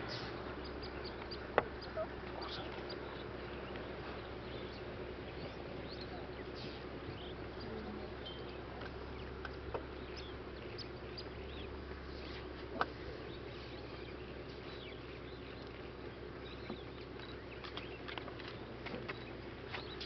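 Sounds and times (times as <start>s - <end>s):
bird chirps: 0.0s - 20.0s
steady low hum: 0.0s - 20.0s.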